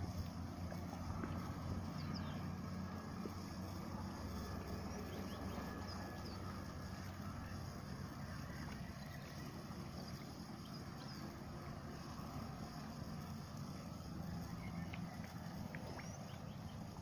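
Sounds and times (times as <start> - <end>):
low motor-like rumble: 0.0 - 17.0.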